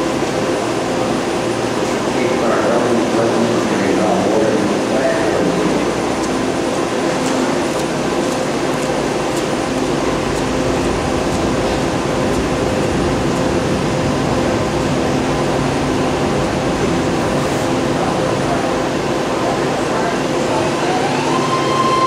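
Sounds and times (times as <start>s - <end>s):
train humming at platform: 0.0s - 22.0s.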